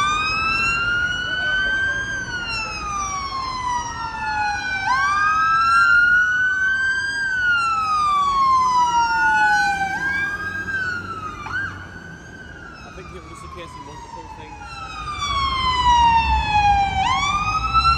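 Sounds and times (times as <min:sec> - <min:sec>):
emergency siren wailing: 0:00.0 - 0:17.9
second siren wail: 0:00.0 - 0:17.9.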